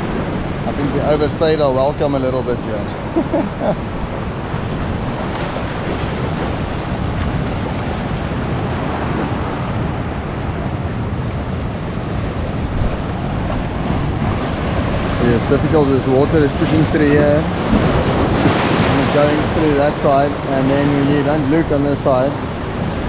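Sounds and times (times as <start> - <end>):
sea surf washing through gully: 0.0 - 23.0
wind on microphone: 0.0 - 23.0.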